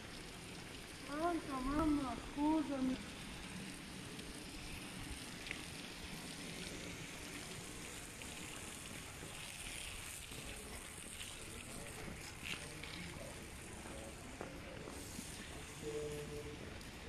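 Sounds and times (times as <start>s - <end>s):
outdoor hiss and low rumble: 0.0s - 17.0s.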